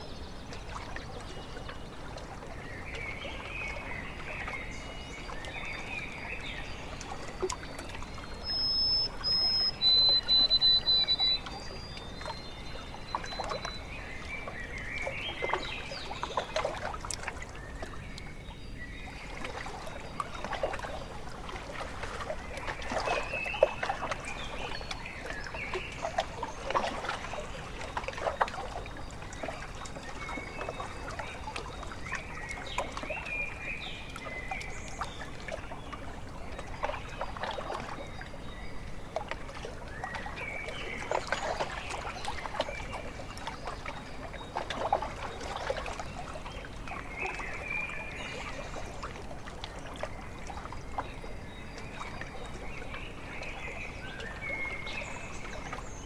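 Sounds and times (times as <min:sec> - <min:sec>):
water lapping at shore: 0:00.0 - 0:56.0.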